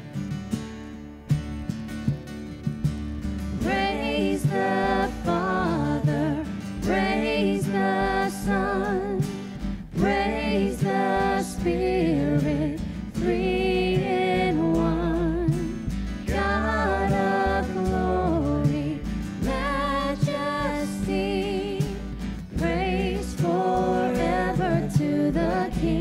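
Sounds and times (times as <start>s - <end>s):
guitar accompaniment: 0.0s - 26.0s
person singing: 3.6s - 26.0s.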